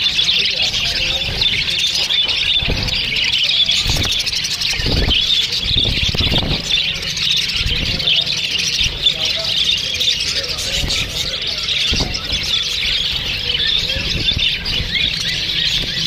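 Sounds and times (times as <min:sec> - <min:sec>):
budgerigars chattering: 0:00.0 - 0:16.0.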